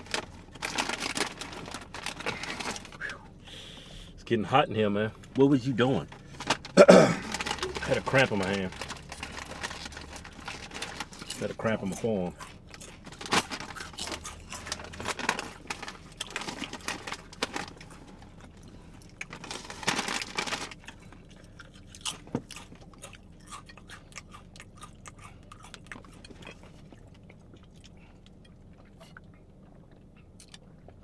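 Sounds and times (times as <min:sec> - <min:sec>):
chewing crunchy chips: 0:00.0 - 0:03.2, 0:05.8 - 0:31.0.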